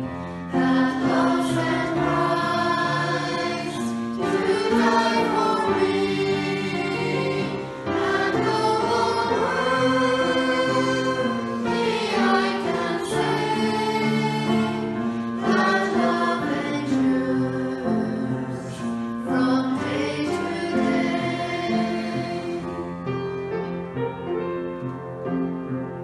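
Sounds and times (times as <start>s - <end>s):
choir singing a hymn: 0.0s - 23.6s.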